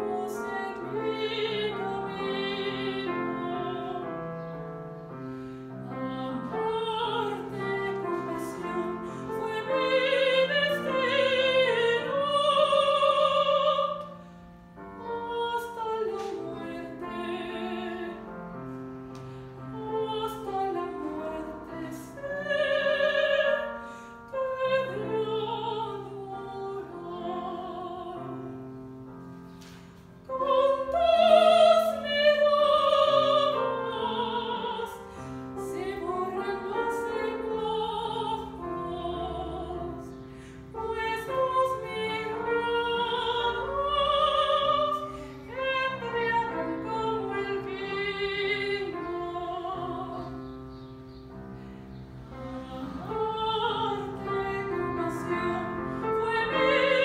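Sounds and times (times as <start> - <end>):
piano accompaniment: 0.0 - 57.0
soprano singing: 0.0 - 57.0.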